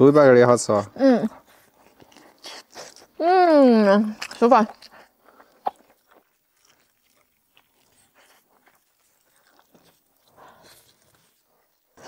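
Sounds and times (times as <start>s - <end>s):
person chewing meat: 1.4s - 3.2s, 3.9s - 12.0s.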